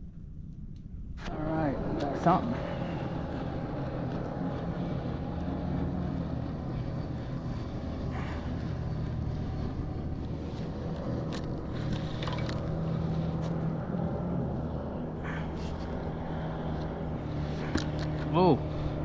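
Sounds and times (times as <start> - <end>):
boat motor drone: 0.9 - 19.0.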